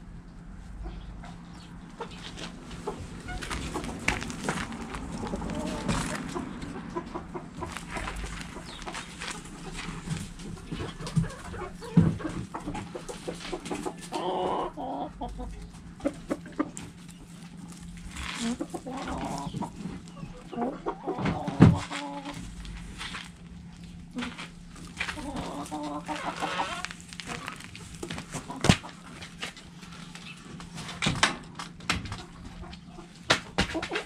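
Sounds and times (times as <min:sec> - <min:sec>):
hens clucking and calling: 0:00.6 - 0:34.0.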